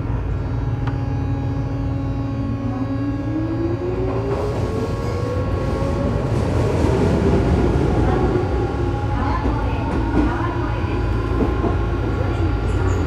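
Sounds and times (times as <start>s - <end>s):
train running rumble and hum: 0.0s - 13.0s.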